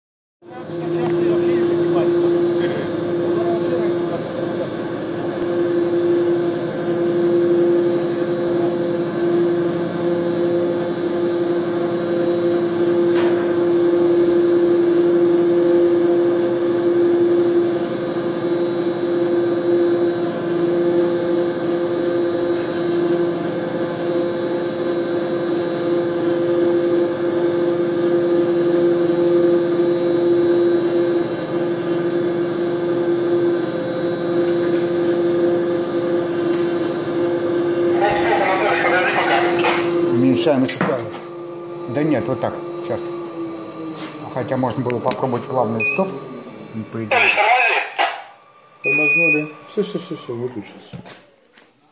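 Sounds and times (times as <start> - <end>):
bridge lift machinery humming: 0.4 - 51.5.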